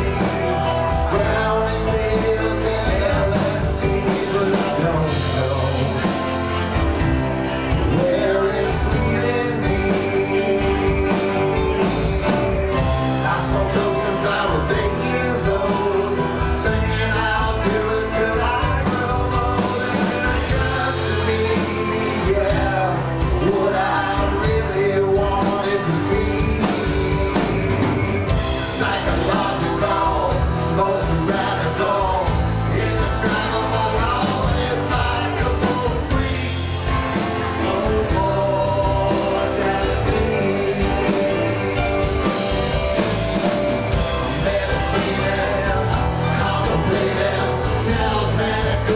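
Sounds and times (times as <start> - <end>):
acoustic guitars: 0.0 - 48.9
bass: 0.0 - 48.9
drums: 0.0 - 48.9
men singing together: 0.0 - 48.9.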